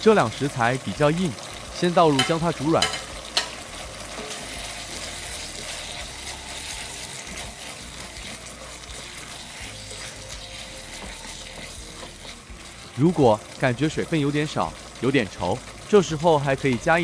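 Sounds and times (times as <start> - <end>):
sauce simmering in a wok: 0.0 - 17.0
spatula stirring: 2.1 - 17.0.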